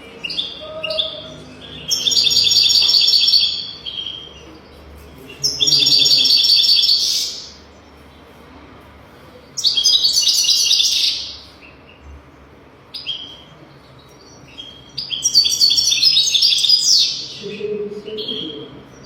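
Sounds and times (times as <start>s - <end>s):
bird twittering song: 0.0s - 8.4s, 9.4s - 19.0s.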